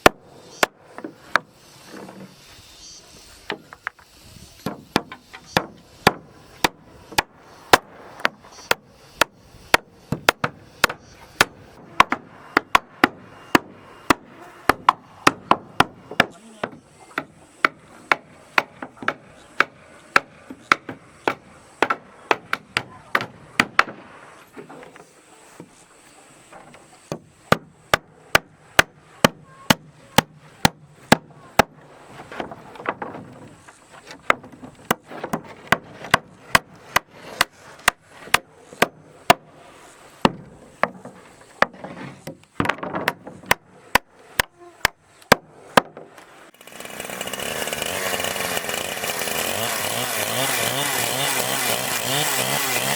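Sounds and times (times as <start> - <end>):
tool striking wood: 0.0 - 2.2, 3.4 - 25.8, 26.5 - 39.5, 40.2 - 52.9.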